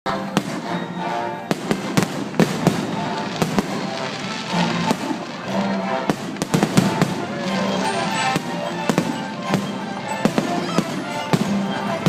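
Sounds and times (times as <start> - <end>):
fireworks bangs: 0.1 - 12.0
music with long held notes: 0.1 - 12.0.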